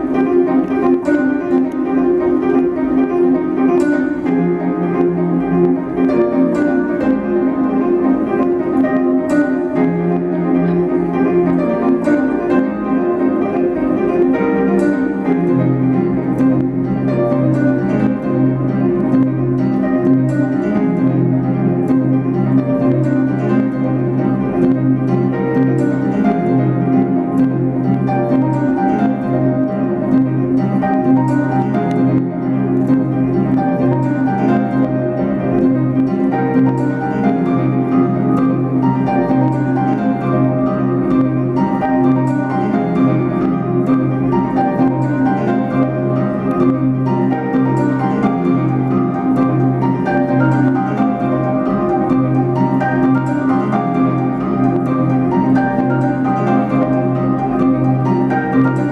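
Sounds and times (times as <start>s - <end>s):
plucked harp-like notes: 0.0s - 58.9s.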